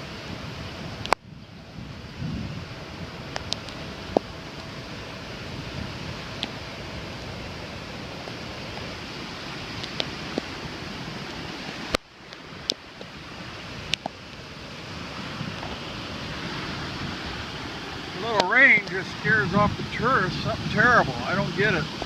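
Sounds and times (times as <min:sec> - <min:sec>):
surf rushing on beach: 0:00.0 - 0:22.0
wind buffeting microphone: 0:00.0 - 0:22.0.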